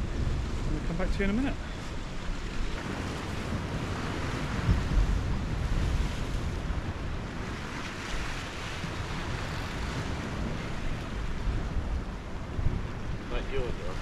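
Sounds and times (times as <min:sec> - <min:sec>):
wind buffeting microphone: 0:00.0 - 0:14.0
small waves breaking on rocks: 0:00.1 - 0:14.0.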